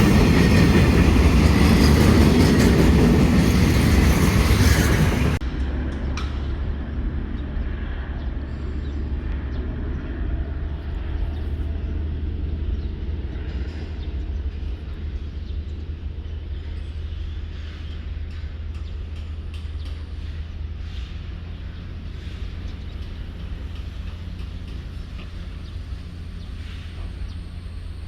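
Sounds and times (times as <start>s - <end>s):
train machinery hum: 0.0s - 28.0s.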